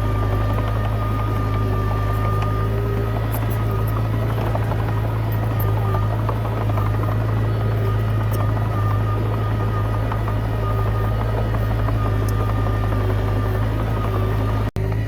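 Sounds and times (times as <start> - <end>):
diesel engine droning: 0.0 - 15.0
machine clicks and squeaks: 0.0 - 15.0.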